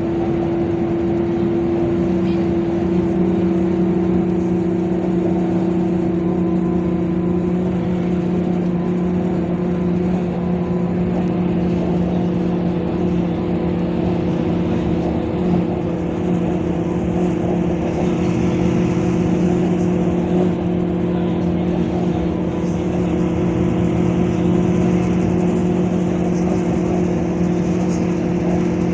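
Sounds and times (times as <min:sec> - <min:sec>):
bus diesel engine running: 0:00.0 - 0:28.9.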